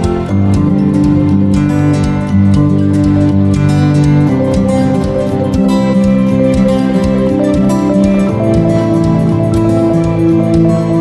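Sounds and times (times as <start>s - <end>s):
soft new-age instrumental music: 0.0s - 11.0s.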